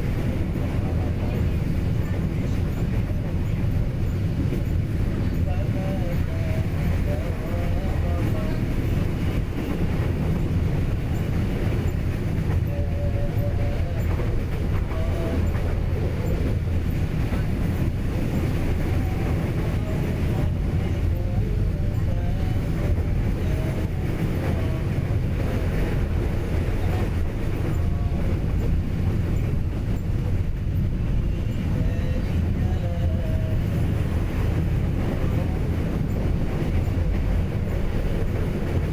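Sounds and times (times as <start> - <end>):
train rumbling: 0.0 - 38.9.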